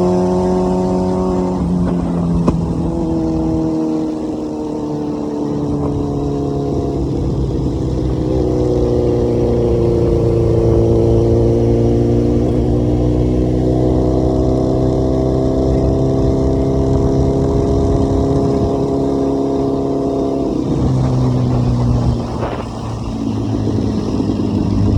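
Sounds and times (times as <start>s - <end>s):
motorcycle engine at high revs: 0.0s - 24.9s.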